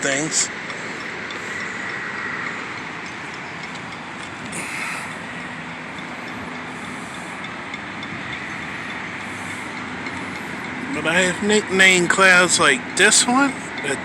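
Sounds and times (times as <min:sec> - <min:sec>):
city traffic noise: 0:00.0 - 0:14.0.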